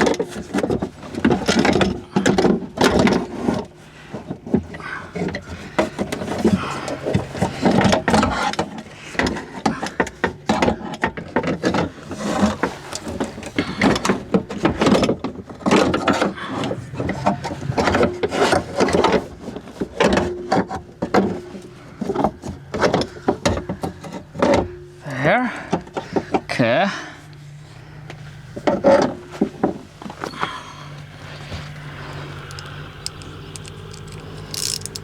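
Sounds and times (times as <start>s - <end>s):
metal and plastic parts clattering: 0.0s - 24.9s, 28.6s - 35.0s.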